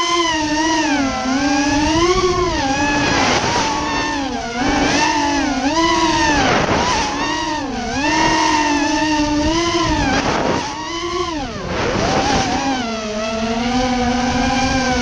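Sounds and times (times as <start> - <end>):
drone motors whining: 0.0 - 15.0
low wind rumble: 0.0 - 15.0.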